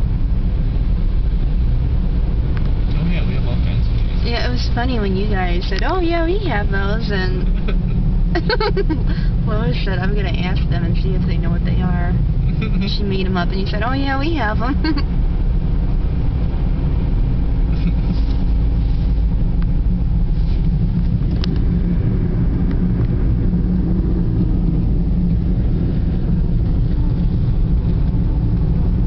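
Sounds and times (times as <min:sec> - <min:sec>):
car interior road rumble: 0:00.0 - 0:29.0.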